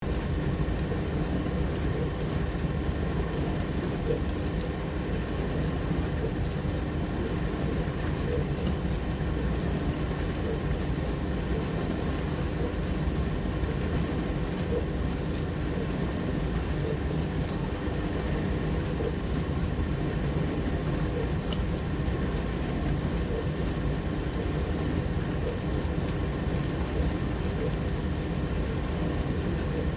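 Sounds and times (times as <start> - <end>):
dishwasher running: 0.0 - 29.9.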